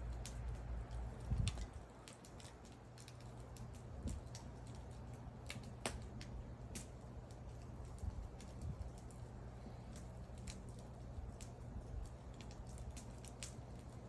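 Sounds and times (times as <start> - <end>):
sharp pops of fire: 0.0 - 14.0
wood fire crackling: 0.0 - 14.0.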